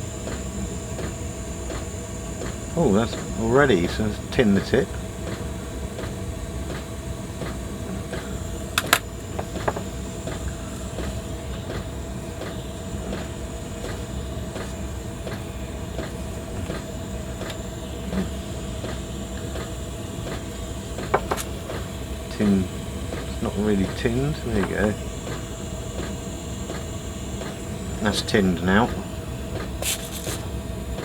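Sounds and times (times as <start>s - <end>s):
gas torch hissing: 0.0s - 31.0s.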